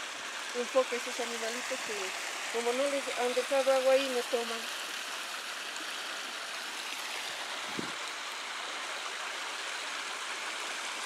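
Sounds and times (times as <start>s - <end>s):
shallow water rushing: 0.0s - 11.0s.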